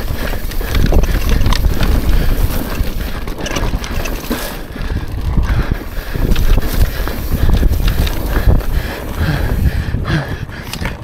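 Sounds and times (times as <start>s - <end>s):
bike rumbling and rattling: 0.0s - 11.0s
wind rushing over microphone: 0.0s - 11.0s.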